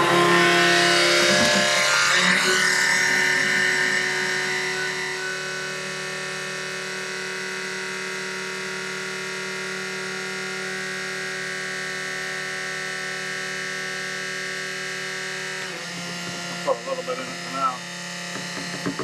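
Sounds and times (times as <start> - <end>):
electric fuel pump humming: 0.0 - 19.0.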